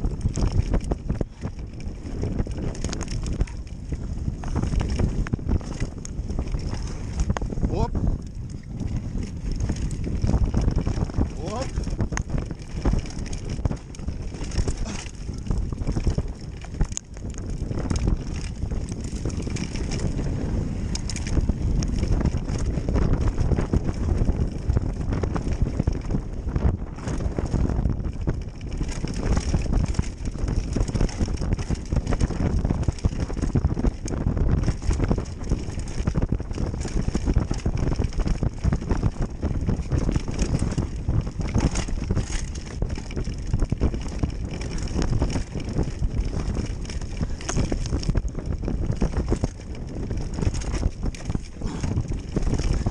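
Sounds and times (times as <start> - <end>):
bicycle rattling over ground: 0.0 - 52.9
wind rumble on microphone: 0.0 - 52.9.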